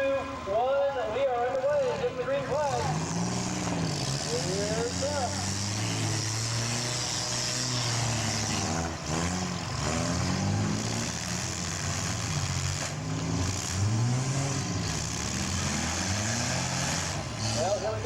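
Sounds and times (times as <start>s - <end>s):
small car engines revving: 1.6s - 18.0s.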